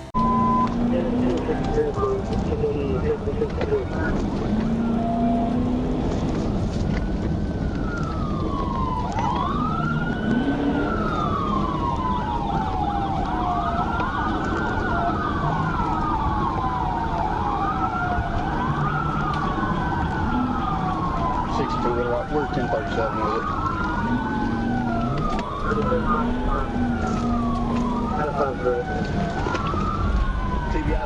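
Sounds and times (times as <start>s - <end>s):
police sirens wailing: 0.0s - 31.0s
road and engine rumble: 0.0s - 31.0s.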